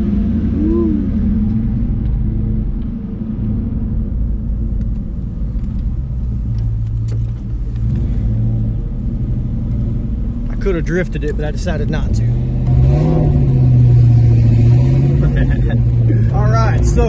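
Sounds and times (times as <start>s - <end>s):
car engine with deep exhaust rumble: 0.0s - 17.0s.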